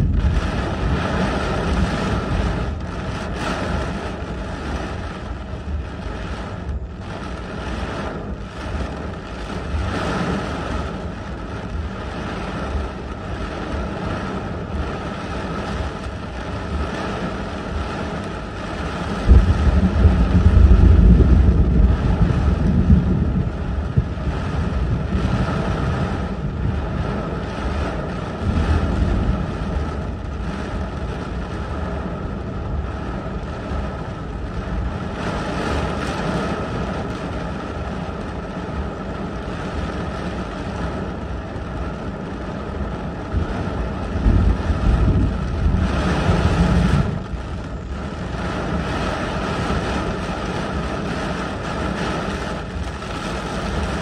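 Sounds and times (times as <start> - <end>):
heavy rain and wind on car: 0.0 - 54.0
low wind buffeting: 0.0 - 54.0.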